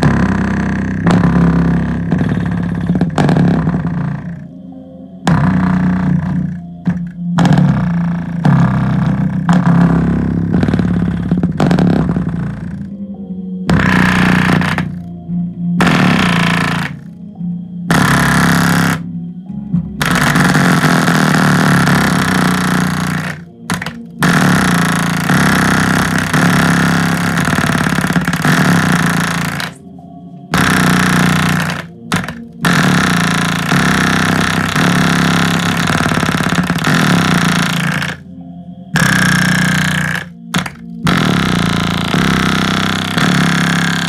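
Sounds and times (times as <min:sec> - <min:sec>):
distorted bass from subwoofer: 0:00.0 - 0:44.0.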